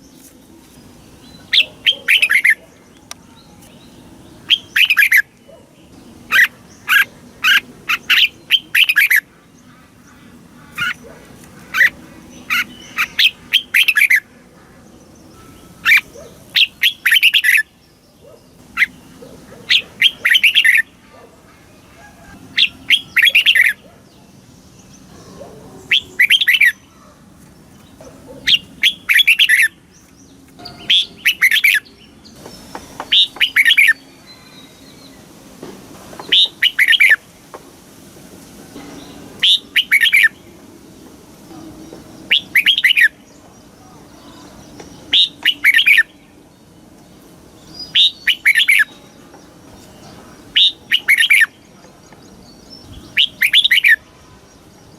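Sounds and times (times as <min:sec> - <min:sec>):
bird chattering song: 0:00.0 - 0:35.3, 0:36.1 - 0:37.3, 0:38.8 - 0:40.7, 0:41.4 - 0:54.9.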